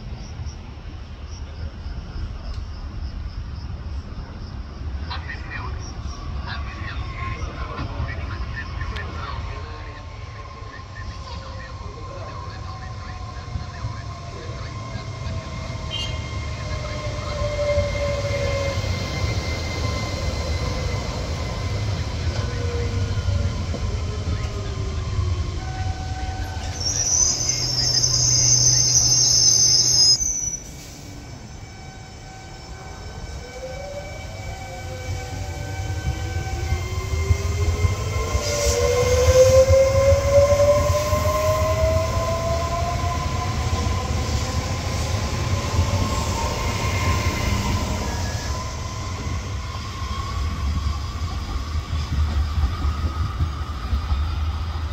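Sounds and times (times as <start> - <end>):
train traction motors whining: 4.9 - 54.9
high-pitched squeal: 5.1 - 54.9.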